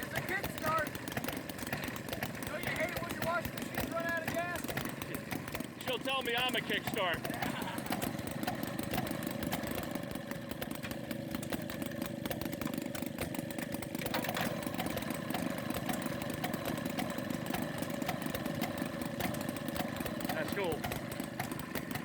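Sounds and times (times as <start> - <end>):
small gasoline engine puttering: 0.0 - 22.0.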